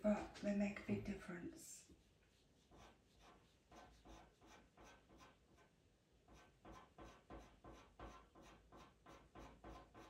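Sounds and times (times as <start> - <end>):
pencil scratching on paper: 1.8 - 10.0.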